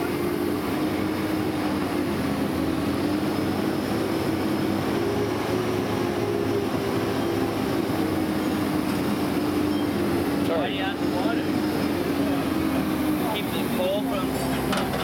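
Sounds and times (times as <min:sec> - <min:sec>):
hand-cranked forge blower whirring: 0:00.0 - 0:15.0.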